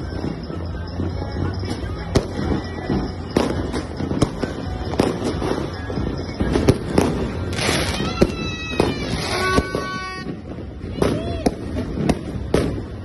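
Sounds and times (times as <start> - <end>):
fireworks bangs and crackles: 0.0 - 13.0
fireworks whistling: 0.0 - 13.0.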